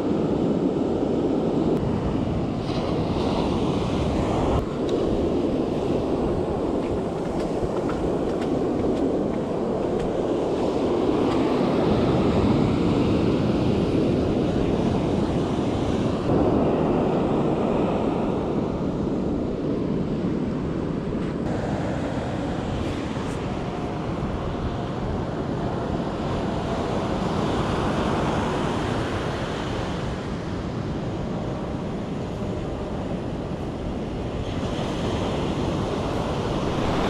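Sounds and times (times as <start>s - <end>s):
ocean surf breaking on beach: 0.0s - 37.0s
wind buffeting microphone: 0.0s - 37.0s.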